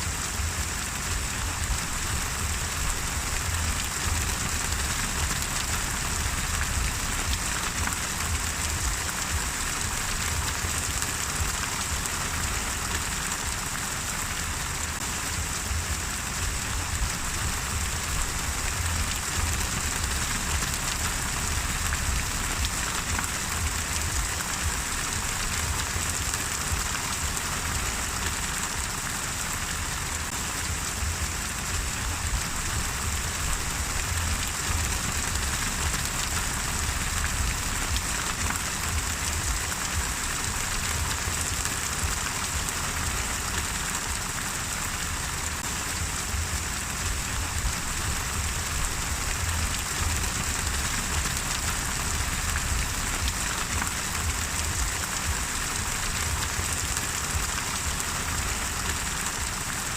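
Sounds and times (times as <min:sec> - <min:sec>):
low background rumble: 0:00.0 - 0:27.9, 0:30.2 - 0:43.4, 0:44.0 - 0:59.7
steady rain patter: 0:00.0 - 0:59.9.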